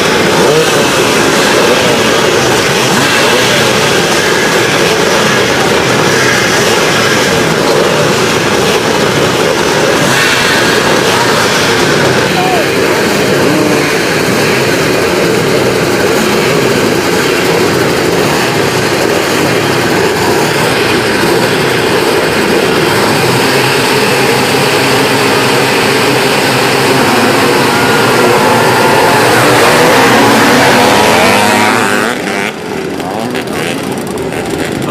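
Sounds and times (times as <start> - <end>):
motocross motorcycle engines revving: 0.0 - 34.9.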